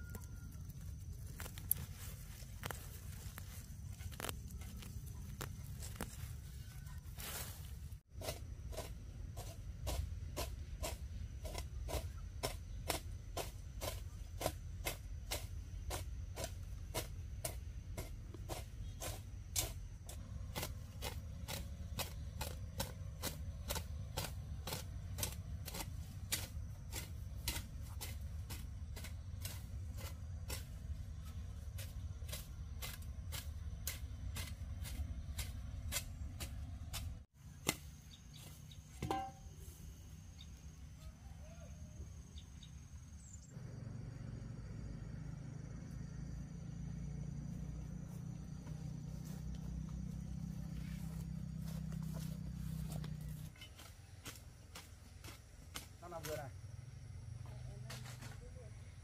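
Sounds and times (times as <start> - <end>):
low steady rumble: 0.0 - 37.3, 42.9 - 53.6.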